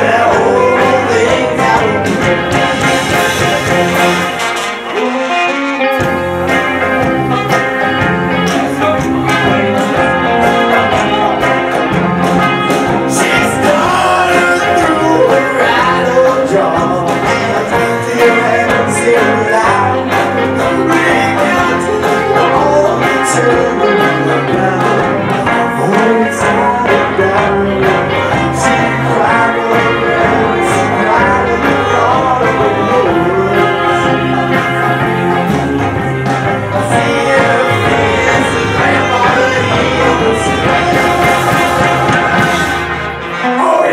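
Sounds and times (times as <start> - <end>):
banjo: 0.0 - 43.8
drums: 0.0 - 43.9
electric guitar: 0.0 - 43.9
saxophone: 0.0 - 43.9.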